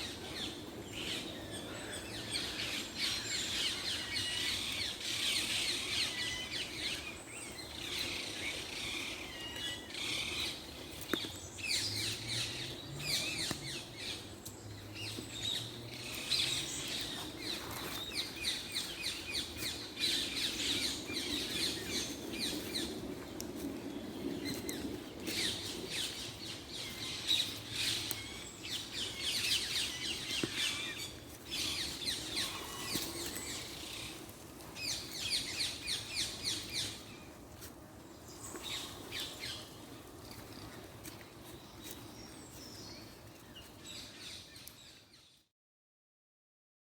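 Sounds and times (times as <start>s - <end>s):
small birds chirping: 0.0s - 45.5s.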